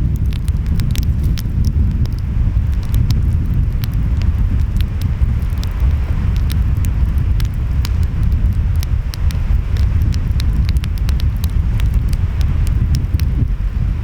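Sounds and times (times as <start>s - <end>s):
wind: 0.0s - 14.0s
wood fire crackling: 0.0s - 14.0s.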